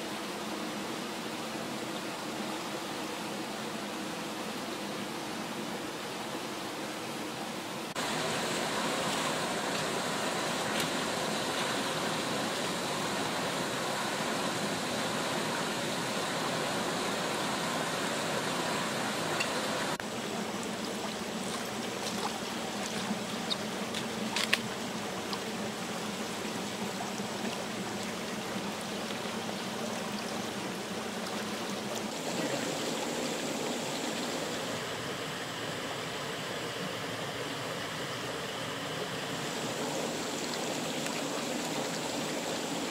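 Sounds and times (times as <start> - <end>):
stream rushing over rocks: 6.9 - 42.9.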